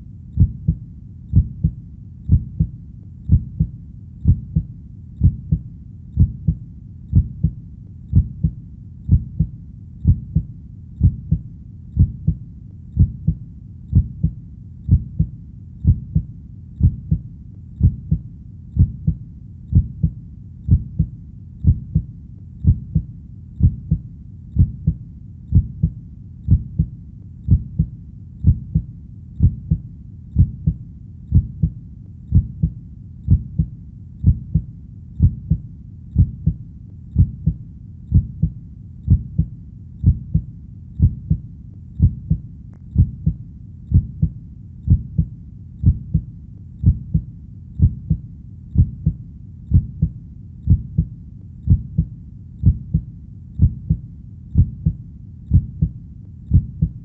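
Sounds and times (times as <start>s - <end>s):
heartbeat lub-dub: 0.0s - 57.0s.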